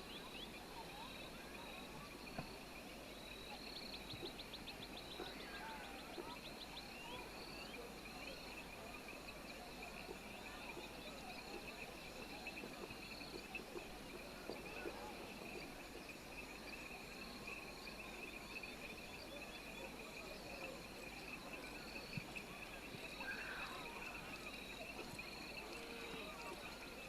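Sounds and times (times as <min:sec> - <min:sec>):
insects trilling: 0:00.1 - 0:27.0.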